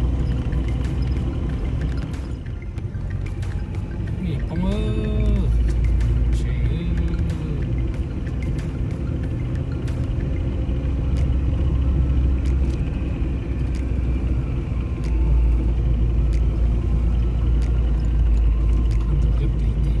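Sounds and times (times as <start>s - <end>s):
off-road vehicle engine rumble: 0.0s - 20.0s.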